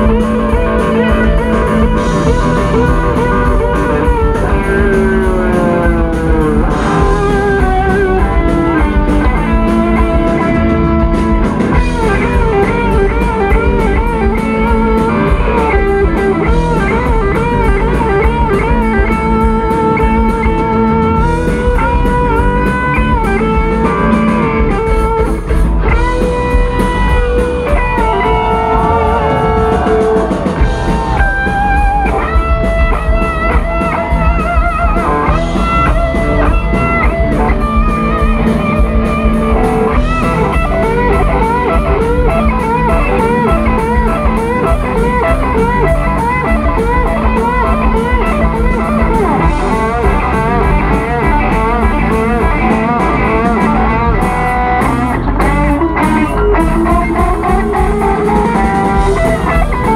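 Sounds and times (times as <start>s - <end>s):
bass: 0.0s - 59.9s
driving drums: 0.0s - 59.9s
electric guitar lead: 0.0s - 59.9s.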